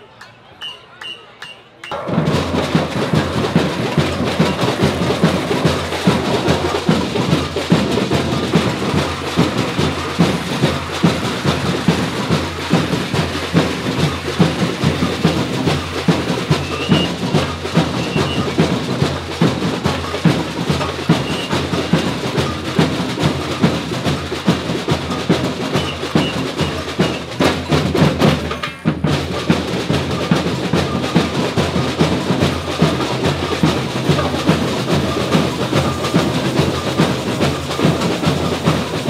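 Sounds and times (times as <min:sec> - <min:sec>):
fast percussion rhythm: 0:00.0 - 0:39.0.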